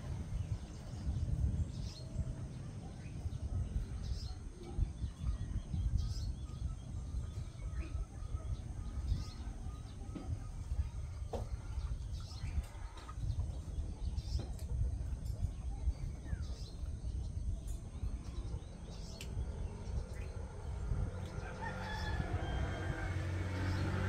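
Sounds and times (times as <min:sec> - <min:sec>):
birds chirping: 0:00.0 - 0:24.0
steady low rumble: 0:00.0 - 0:24.0.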